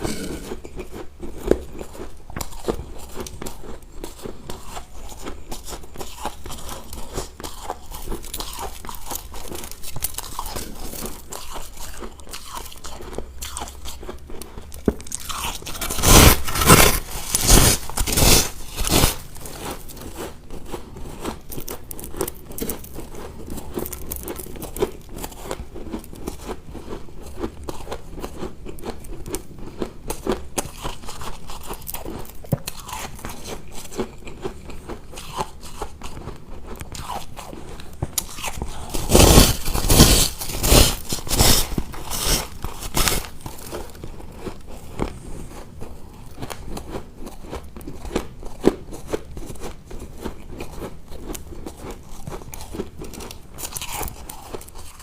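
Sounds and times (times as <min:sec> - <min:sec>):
person crunching ice cubes: 0:00.0 - 0:55.0.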